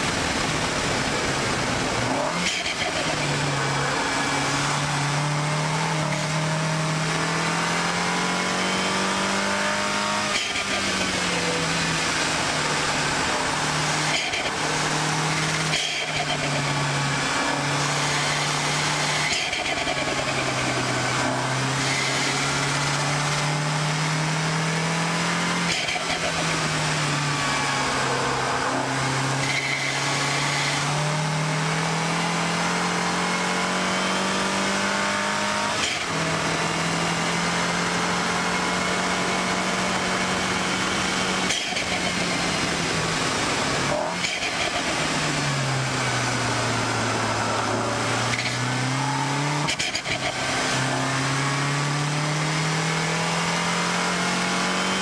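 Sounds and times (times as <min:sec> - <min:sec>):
car engine running hard: 0:00.0 - 0:55.0
road and wind noise: 0:00.0 - 0:55.0.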